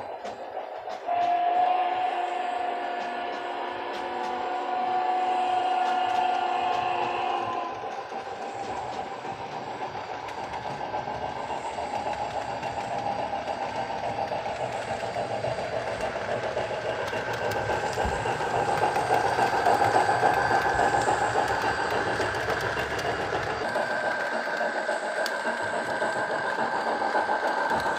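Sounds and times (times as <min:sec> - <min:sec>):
steam locomotive chuffing from speaker: 0:00.0 - 0:27.9.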